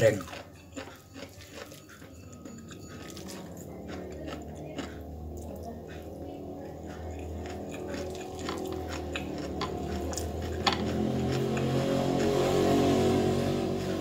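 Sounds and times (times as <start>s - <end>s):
wet chewing and smacking: 0.0s - 13.0s
steady low hum: 0.1s - 14.0s
low drone: 2.0s - 14.0s.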